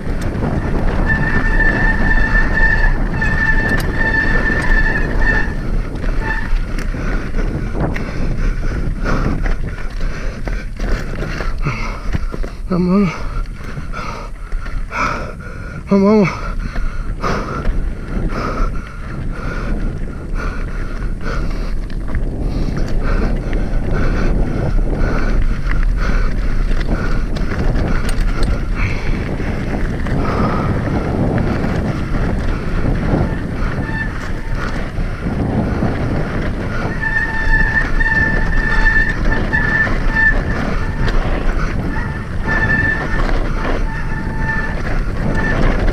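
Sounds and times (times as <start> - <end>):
mountain bike rattling over rocks: 0.0 - 45.9
wind buffeting microphone: 0.0 - 45.9.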